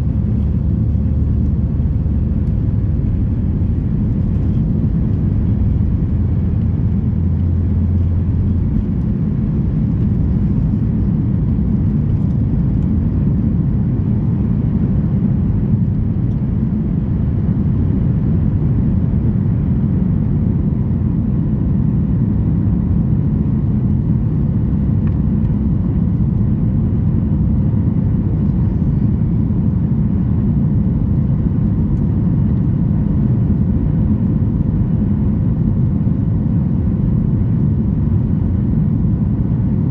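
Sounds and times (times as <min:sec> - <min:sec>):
airplane cabin engine rumble: 0:00.0 - 0:39.9
faint steady whine: 0:00.0 - 0:39.9.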